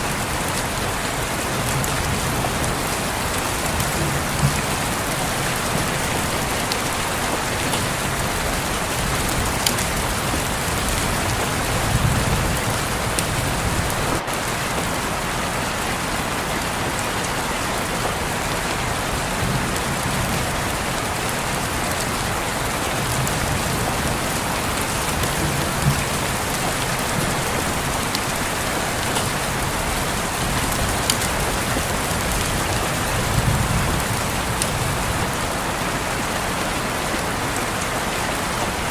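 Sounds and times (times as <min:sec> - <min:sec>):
rain on a window pane: 0:00.0 - 0:38.9.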